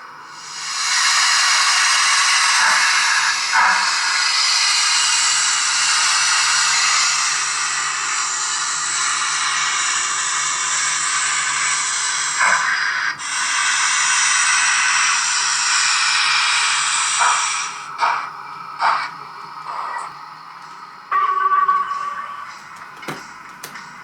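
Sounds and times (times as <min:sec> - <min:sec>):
model locomotive steam hiss: 0:00.0 - 0:23.9.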